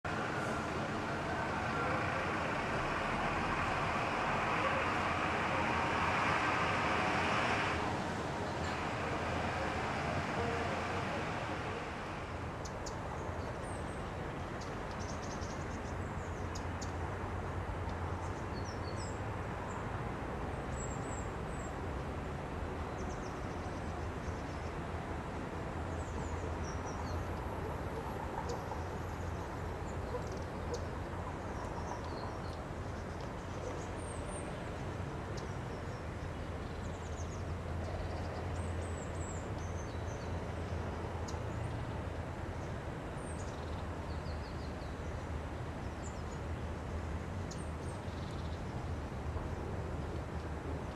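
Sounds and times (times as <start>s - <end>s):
city traffic rumble: 0.0s - 50.9s.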